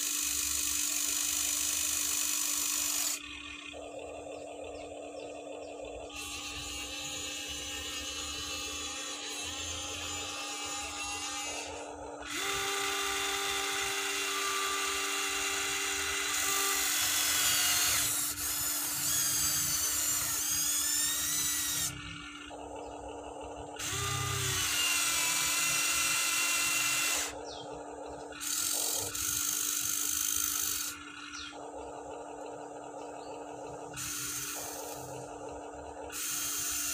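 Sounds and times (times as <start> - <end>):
electric motors whining: 0.0 - 36.9.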